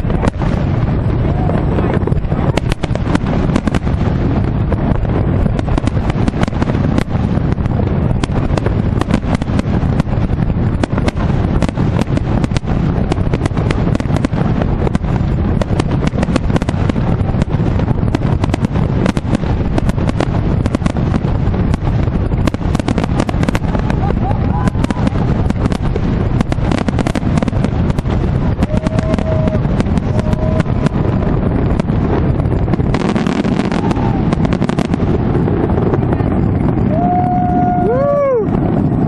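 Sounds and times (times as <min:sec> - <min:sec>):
fireworks cracks and bangs: 0:00.0 - 0:39.0
low rumble: 0:00.0 - 0:39.0.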